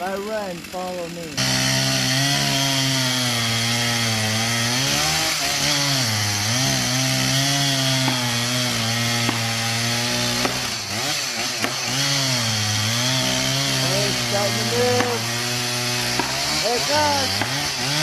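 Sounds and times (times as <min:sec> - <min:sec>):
chainsaw cutting tree trunk: 0:00.0 - 0:18.0.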